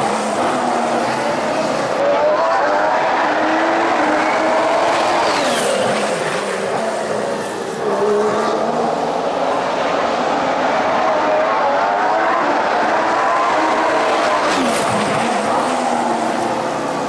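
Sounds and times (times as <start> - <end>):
racing car engine running hard: 0.0 - 17.0.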